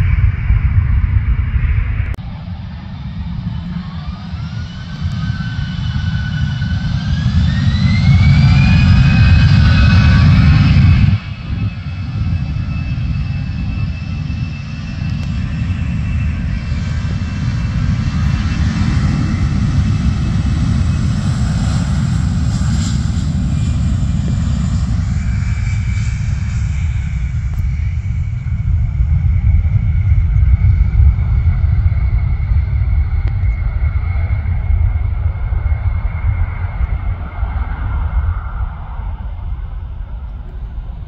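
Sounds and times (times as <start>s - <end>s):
jet engines at high power: 0.0s - 41.0s.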